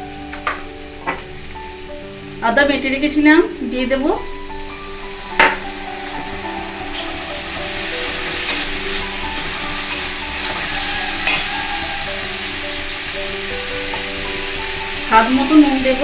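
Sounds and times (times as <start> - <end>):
spices sizzling in oil: 0.0 - 16.0.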